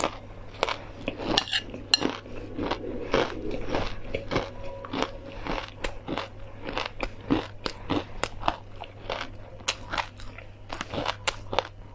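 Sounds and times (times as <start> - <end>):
crunchy chewing: 0.0 - 11.9.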